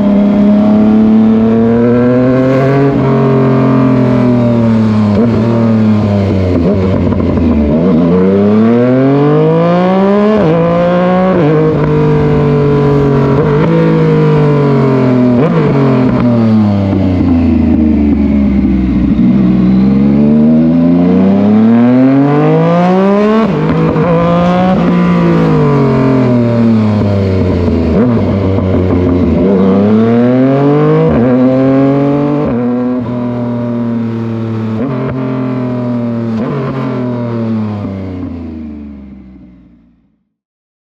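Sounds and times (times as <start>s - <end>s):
motorcycle engine accelerating: 0.0s - 40.3s.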